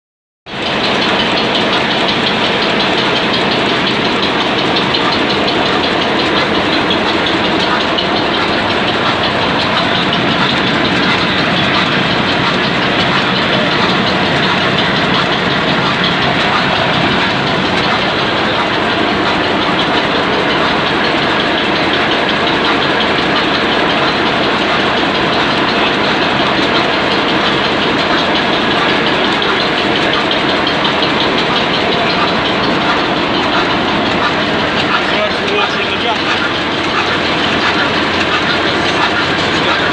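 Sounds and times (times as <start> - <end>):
diesel engine running: 0.5 - 39.9.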